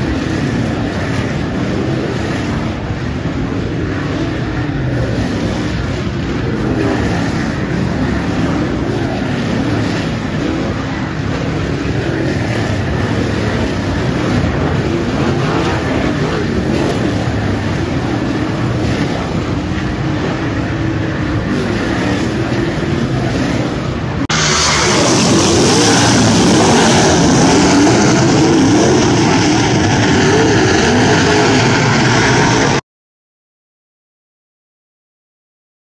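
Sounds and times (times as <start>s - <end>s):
race car engines revving: 0.0s - 32.8s.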